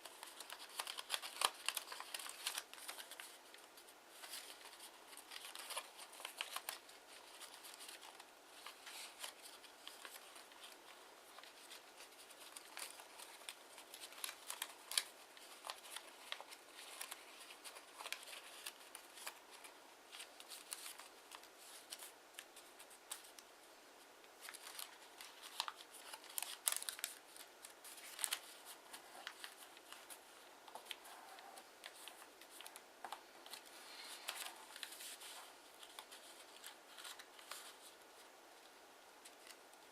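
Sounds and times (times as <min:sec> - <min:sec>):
paper being folded and creased: 0:00.0 - 0:23.4, 0:24.4 - 0:38.2.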